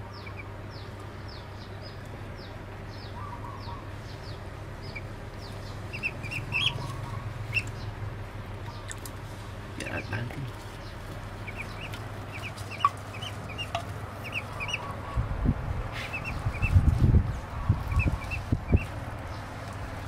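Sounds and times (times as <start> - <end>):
duckling peeping: 0.0 - 8.0, 9.8 - 20.0
steady low hum: 0.0 - 20.0.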